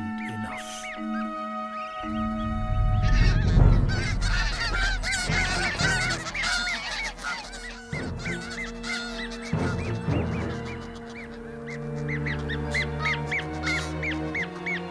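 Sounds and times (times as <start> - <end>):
geese honking in alarm: 0.0 - 14.9.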